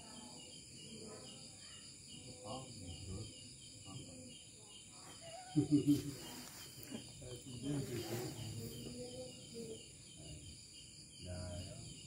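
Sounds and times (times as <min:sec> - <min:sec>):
crickets chirping: 0:00.0 - 0:12.0
faint voices: 0:00.0 - 0:12.0.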